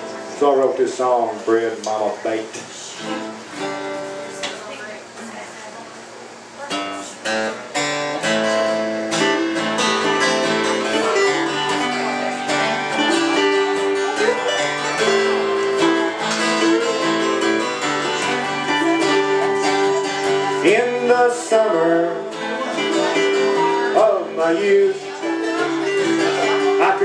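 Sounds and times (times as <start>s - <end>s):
strummed acoustic guitars: 0.0s - 27.0s.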